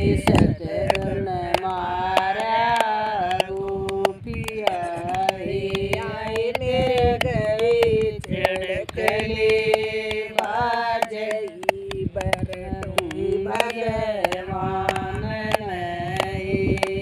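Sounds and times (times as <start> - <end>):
person singing long bending notes: 0.0 - 17.0.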